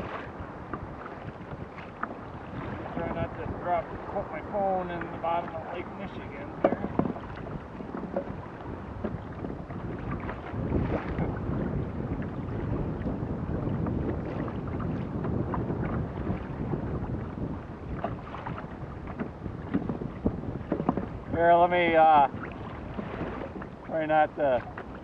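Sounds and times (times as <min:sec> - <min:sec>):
water lapping against kayak: 0:00.0 - 0:25.0
wind buffeting microphone: 0:00.0 - 0:25.0.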